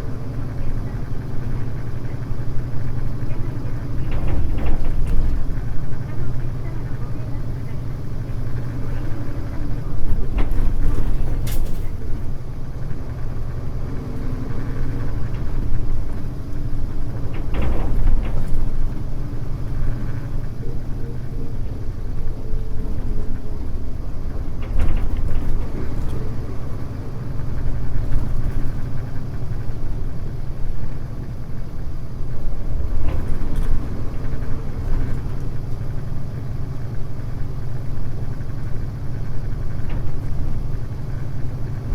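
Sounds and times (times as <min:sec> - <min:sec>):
bus body knocks and rattles: 0:00.0 - 0:41.9
bus diesel engine droning: 0:00.0 - 0:41.9.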